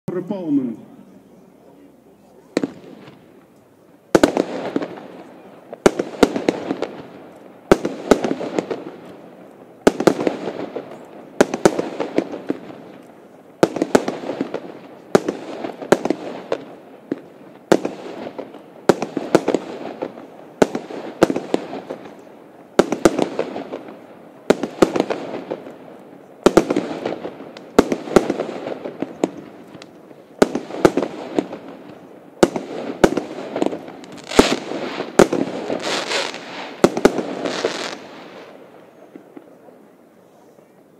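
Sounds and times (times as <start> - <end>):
crackle of firework stars: 0.5 - 40.9
firework bangs: 2.5 - 3.5, 4.1 - 40.1.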